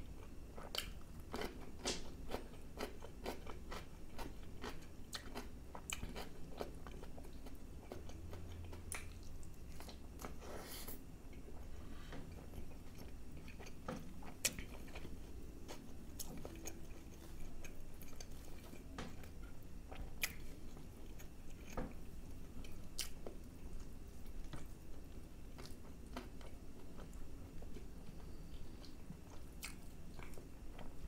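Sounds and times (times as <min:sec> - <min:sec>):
man chewing food: 0:00.0 - 0:31.0.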